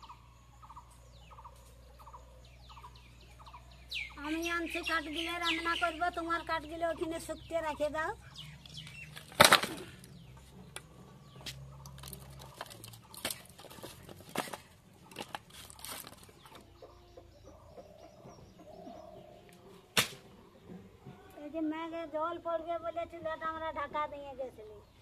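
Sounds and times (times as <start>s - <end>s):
chickens clucking: 0.0s - 21.4s.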